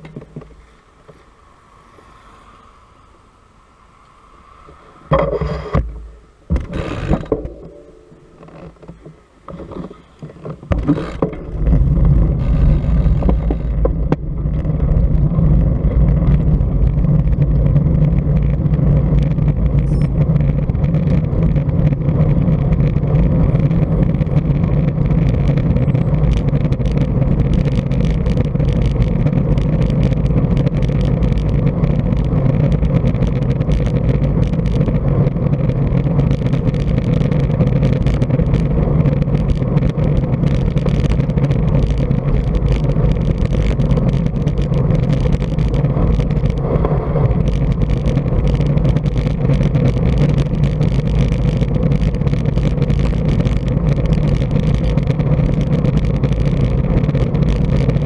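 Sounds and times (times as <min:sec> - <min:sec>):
bicycle tyre road noise: 0:00.0 - 0:58.0
wind rumble on microphone: 0:00.0 - 0:58.0.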